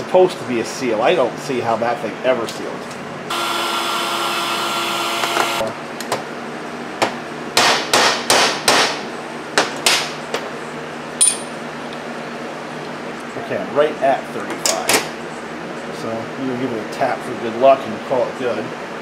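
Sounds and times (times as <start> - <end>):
steady whirring hum: 0.0 - 19.0.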